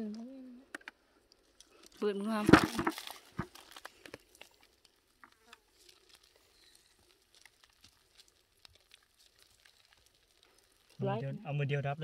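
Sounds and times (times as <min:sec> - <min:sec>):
faint light crackles: 0:00.0 - 0:11.2.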